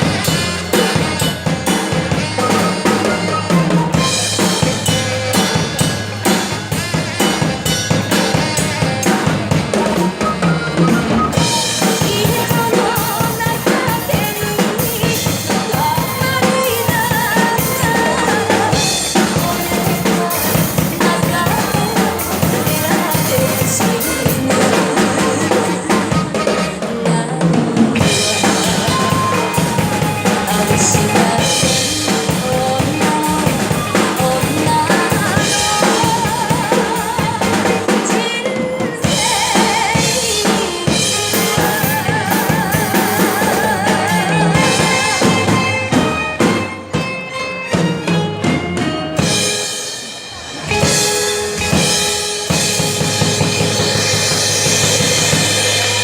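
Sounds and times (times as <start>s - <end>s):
pop ballad music: 0.0s - 56.0s.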